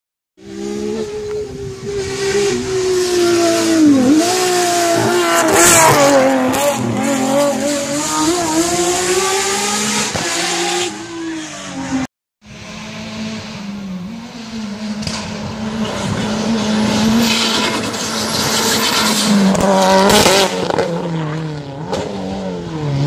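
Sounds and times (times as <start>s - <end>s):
race car engine at full throttle: 0.4s - 23.0s.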